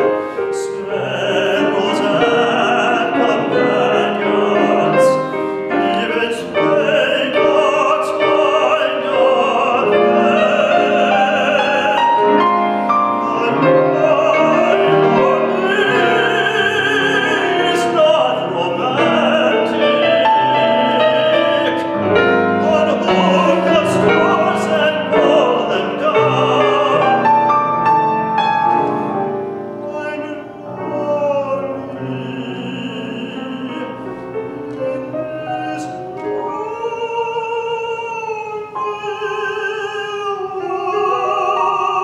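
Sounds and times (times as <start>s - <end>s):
man singing opera: 0.0s - 42.0s
piano accompaniment: 0.0s - 42.0s.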